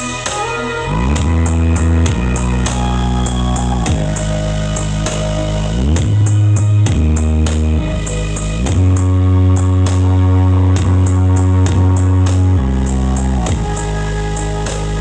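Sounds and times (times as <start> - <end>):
deep sliding bass: 0.0 - 15.0
ticking hi-hat beat: 0.0 - 15.0
trap remix music: 0.0 - 15.0.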